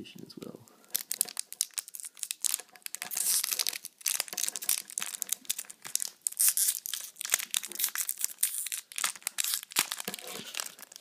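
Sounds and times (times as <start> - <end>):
foil wrapper crinkling and tearing: 0.9 - 11.0.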